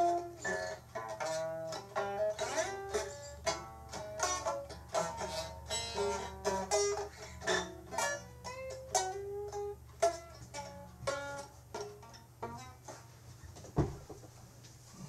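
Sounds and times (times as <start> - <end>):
plucked string melody: 0.0 - 13.2
faint low hum: 0.0 - 15.0.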